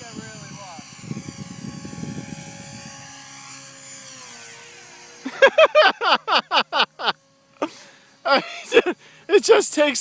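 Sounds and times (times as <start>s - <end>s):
rc helicopter rotor whining: 0.0s - 10.0s.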